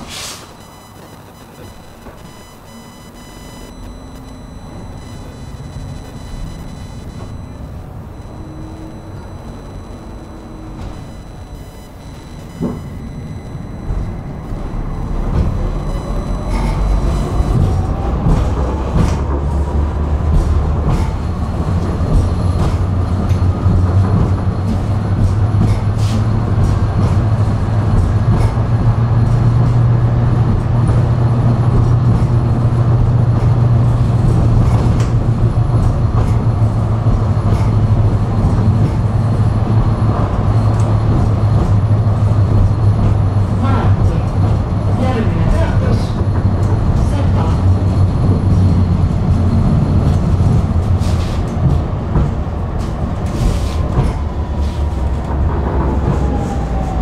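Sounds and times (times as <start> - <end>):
tram motor whine: 0.0 - 57.0
tram running rumble: 0.0 - 57.0.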